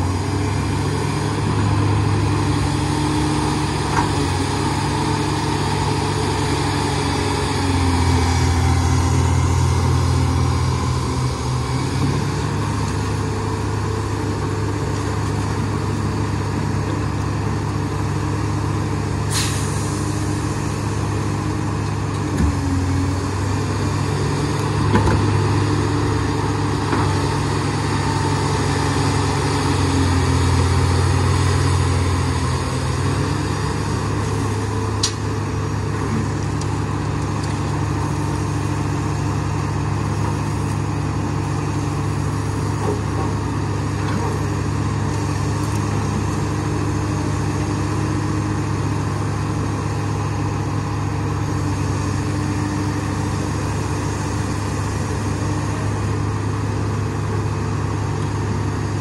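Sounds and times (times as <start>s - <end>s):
dump truck diesel engine: 0.0s - 59.0s
excavator diesel engine: 0.0s - 59.0s.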